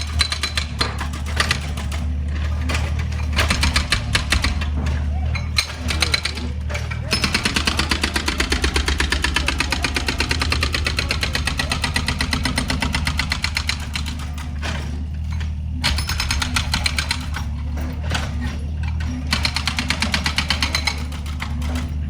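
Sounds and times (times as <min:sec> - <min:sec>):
diesel engine hum: 0:00.0 - 0:20.2
hydraulic breaker hammering: 0:00.0 - 0:22.0.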